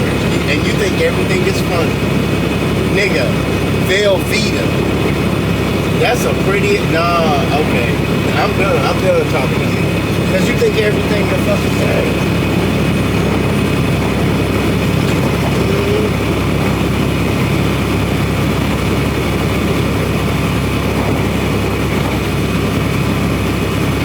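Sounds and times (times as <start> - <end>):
road noise: 0.0 - 24.0
truck engine: 0.0 - 24.0.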